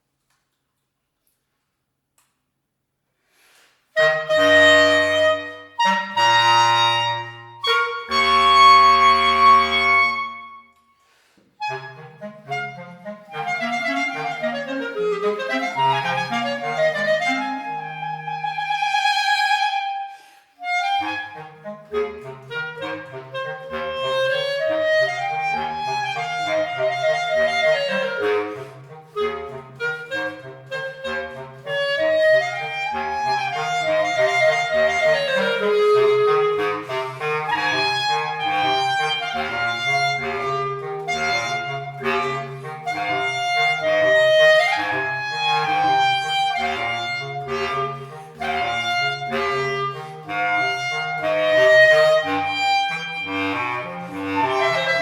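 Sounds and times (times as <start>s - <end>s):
clarinet melody: 3.9s - 55.0s.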